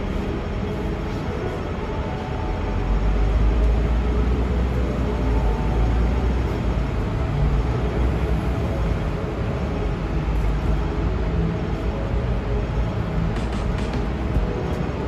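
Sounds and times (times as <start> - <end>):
buses passing: 0.0 - 15.0
city street traffic rumble: 0.0 - 15.0.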